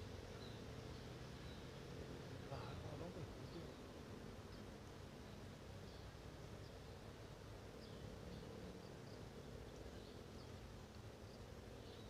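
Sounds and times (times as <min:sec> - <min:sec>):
low steady stream rumble: 0:00.0 - 0:12.0.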